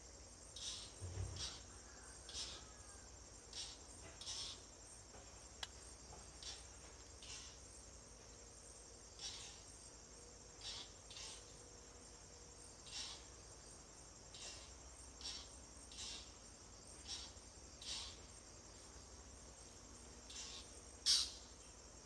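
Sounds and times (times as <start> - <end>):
hissy insect chirps: 0.0 - 22.0
insect chorus drone: 0.0 - 22.0.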